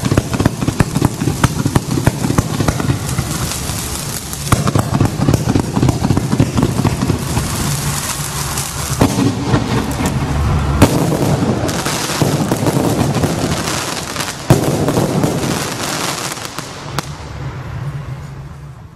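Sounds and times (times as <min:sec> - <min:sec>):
loud firework bangs: 0:00.0 - 0:17.4
firework cake volley: 0:00.0 - 0:18.9.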